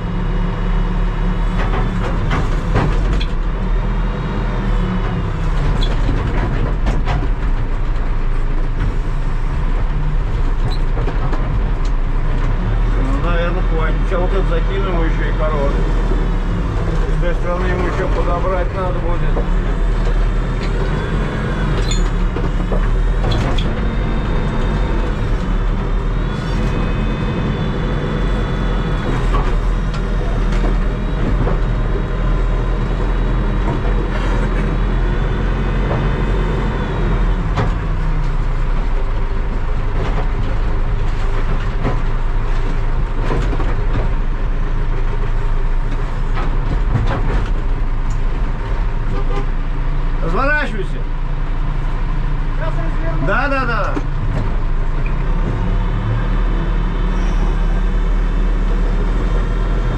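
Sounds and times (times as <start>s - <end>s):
backhoe diesel engine working: 0.0s - 59.9s.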